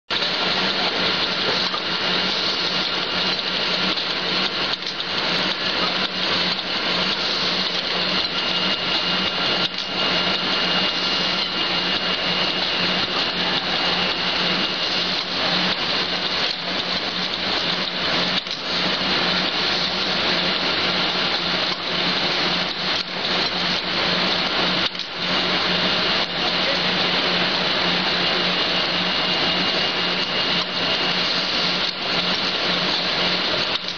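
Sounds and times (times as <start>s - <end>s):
constant low hum: 0.1s - 33.9s
thin high whine: 0.1s - 33.9s.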